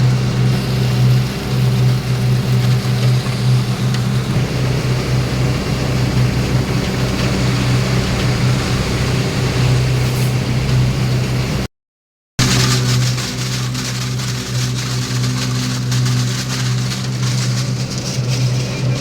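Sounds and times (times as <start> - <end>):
diesel engine droning: 0.0 - 11.7, 12.4 - 19.0.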